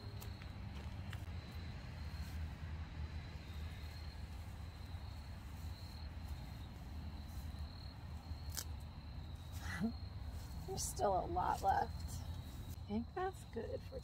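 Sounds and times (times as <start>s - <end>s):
crickets trilling: 1.3s - 14.0s.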